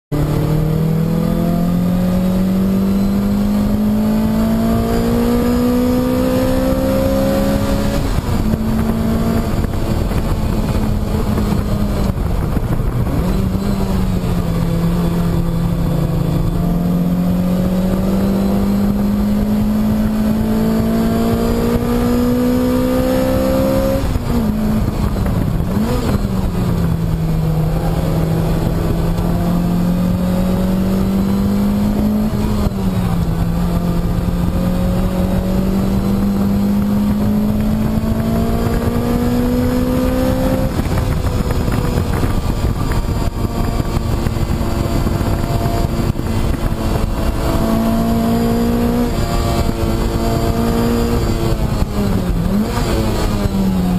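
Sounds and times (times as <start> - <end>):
car engine accelerating: 0.1 - 53.9
road and wind noise: 0.1 - 53.9.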